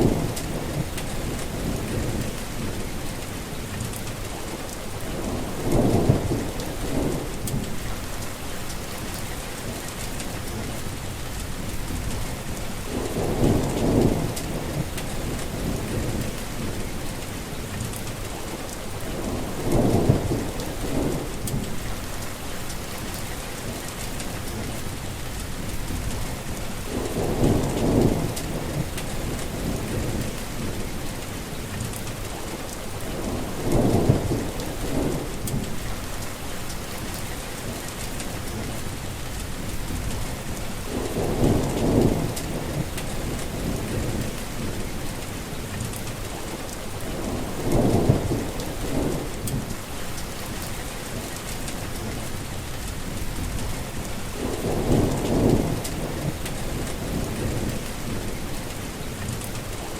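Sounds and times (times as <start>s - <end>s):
heavy rain falling: 0.0s - 59.9s
low rumble of thunder: 0.0s - 59.9s.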